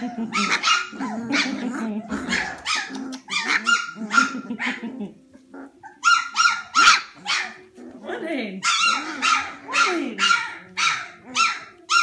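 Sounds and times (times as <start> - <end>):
puppies yapping: 0.0 - 8.0, 8.6 - 12.0.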